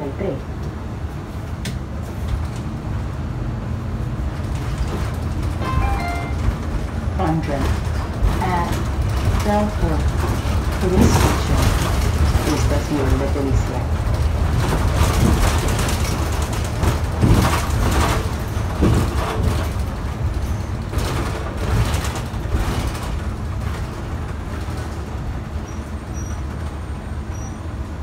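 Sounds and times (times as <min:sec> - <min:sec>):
bus body rattling and knocking: 0:00.0 - 0:28.0
bus engine and road rumble: 0:00.0 - 0:28.0.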